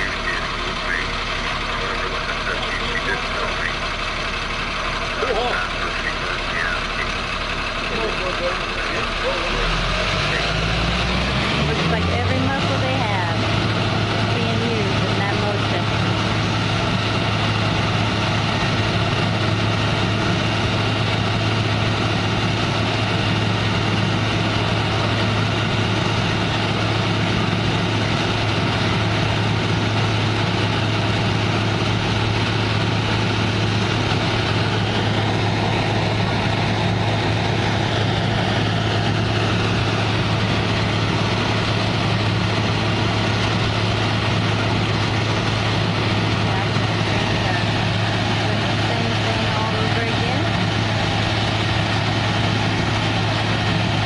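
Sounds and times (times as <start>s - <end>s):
concrete mixer truck engine: 0.0s - 54.0s.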